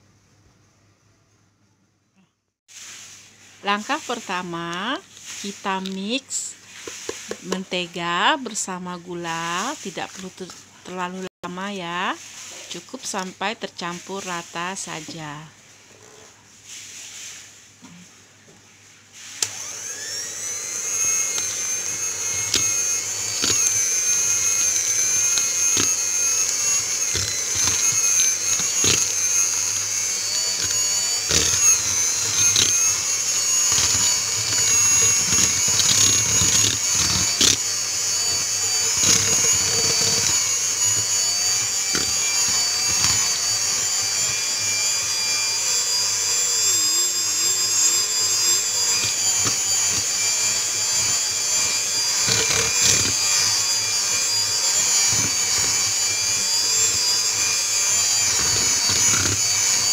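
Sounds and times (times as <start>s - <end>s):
electric hand mixer whine: 3.7s - 11.3s, 12.0s - 16.2s, 19.2s - 59.9s.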